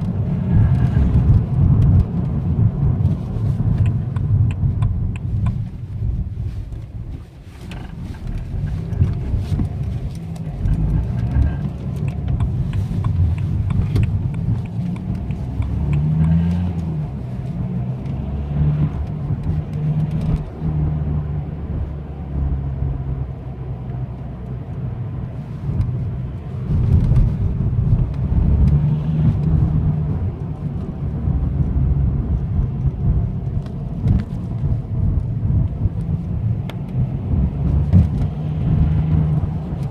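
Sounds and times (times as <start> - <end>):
diesel car engine running: 0.0 - 39.9
strange noise under acceleration: 0.0 - 39.9.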